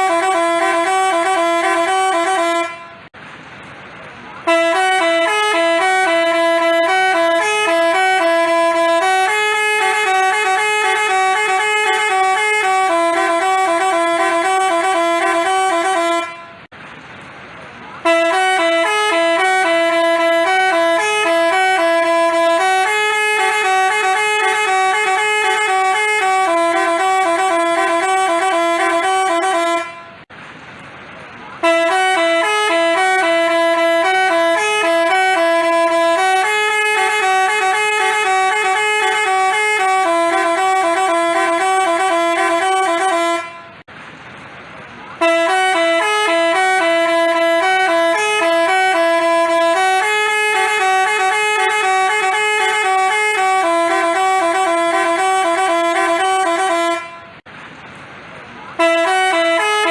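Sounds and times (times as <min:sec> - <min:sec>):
multi-tone bus horn melody: 0:00.0 - 0:03.2, 0:04.3 - 0:16.8, 0:17.9 - 0:30.3, 0:31.5 - 0:43.9, 0:45.1 - 0:57.5, 0:58.7 - 0:59.9.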